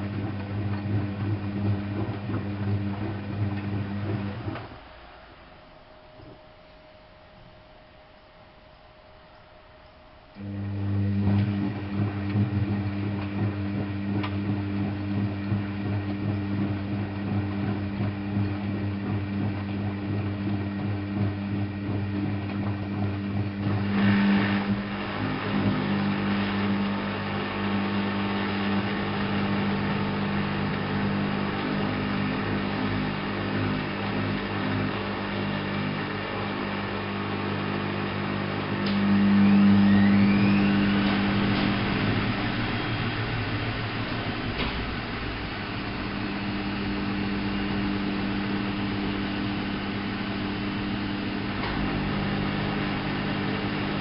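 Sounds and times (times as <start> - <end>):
drain pump humming: 0.0 - 54.0.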